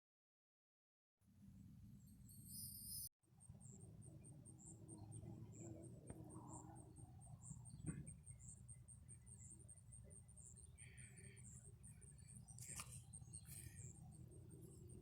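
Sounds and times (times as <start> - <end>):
high-pitched insect chirping: 2.3 - 15.0.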